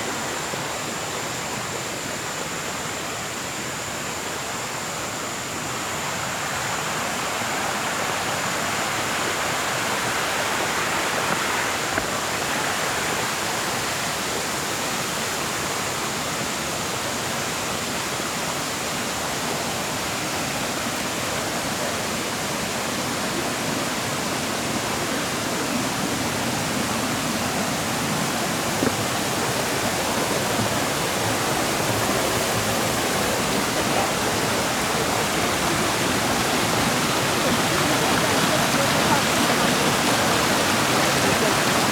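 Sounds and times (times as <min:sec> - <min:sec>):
stream water rushing over rocks: 0:00.0 - 0:41.9.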